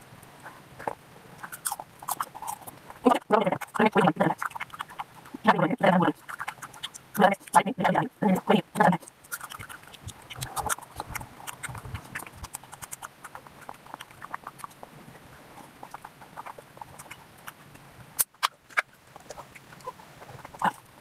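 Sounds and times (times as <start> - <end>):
person chewing with wet smacks: 0.8 - 21.0.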